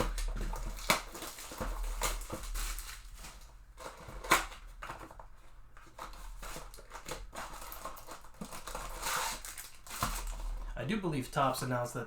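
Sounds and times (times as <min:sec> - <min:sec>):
wrapper tearing: 0:00.0 - 0:05.2, 0:05.8 - 0:10.8
wrappers rustling and crinkling: 0:00.0 - 0:10.8.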